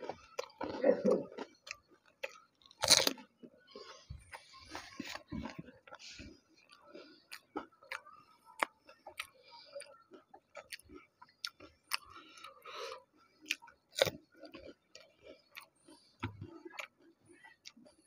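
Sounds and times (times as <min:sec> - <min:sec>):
chewing crunchy fried shells: 0:00.0 - 0:18.0.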